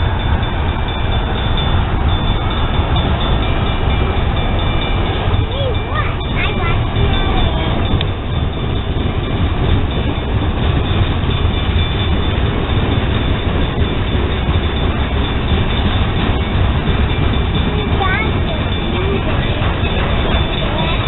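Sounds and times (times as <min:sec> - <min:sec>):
freight train rumbling on rails: 0:00.0 - 0:21.0.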